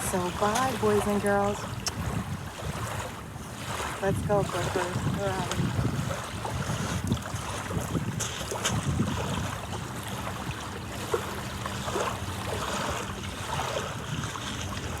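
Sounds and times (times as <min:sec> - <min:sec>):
surf washing: 0:00.0 - 0:15.0
wind rumbling on microphone: 0:00.0 - 0:15.0.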